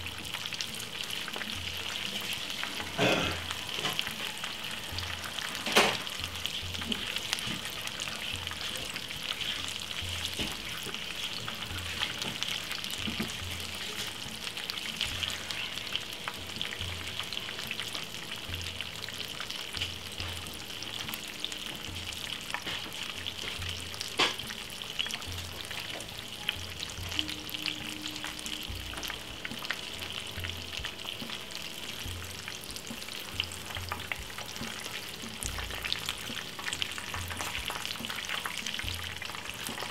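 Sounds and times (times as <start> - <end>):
fish sizzling in hot oil: 0.0 - 39.9
oil popping: 0.0 - 39.9.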